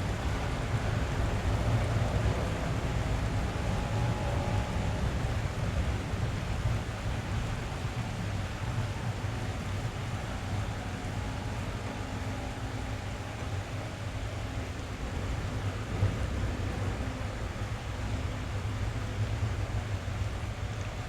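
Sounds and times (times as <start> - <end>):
rain on car roof: 0.0 - 21.0.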